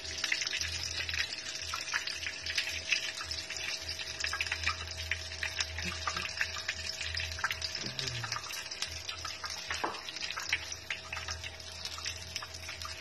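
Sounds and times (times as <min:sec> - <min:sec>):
patties sizzling in hot oil: 0:00.0 - 0:13.0.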